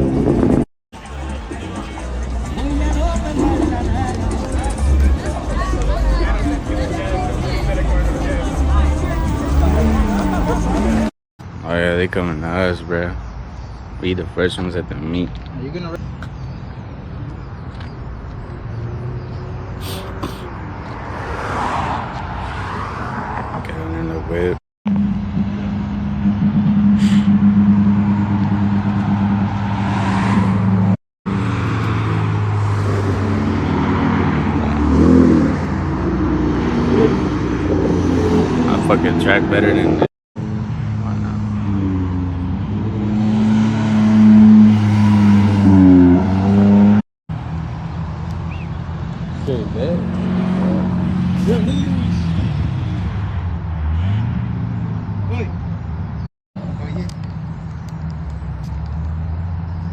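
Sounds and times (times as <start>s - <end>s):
vehicle approaching: 0.0s - 11.1s, 16.8s - 59.9s
car engine low rumble: 0.0s - 11.6s, 23.4s - 59.9s.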